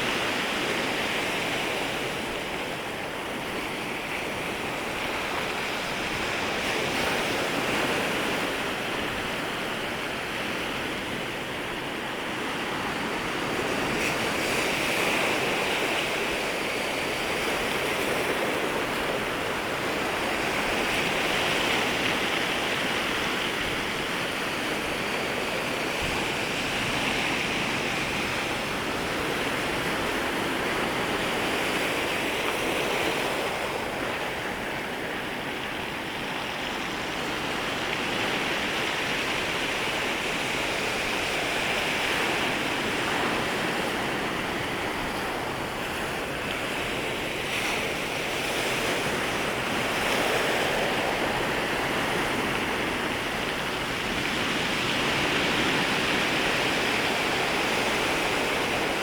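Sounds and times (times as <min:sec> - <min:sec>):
small waves lapping at shore: 0:00.0 - 0:59.0.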